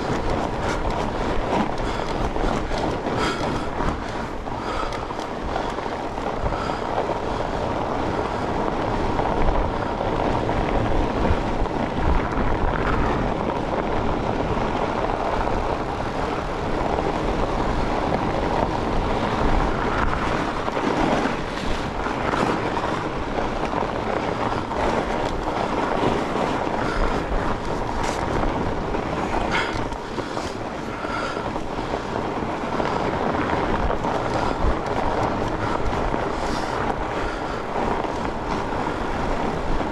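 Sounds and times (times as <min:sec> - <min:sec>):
bike clicks and knocks: 0:00.0 - 0:39.9
wide bike tyres rolling: 0:00.0 - 0:39.9
wind over microphone: 0:00.0 - 0:39.9.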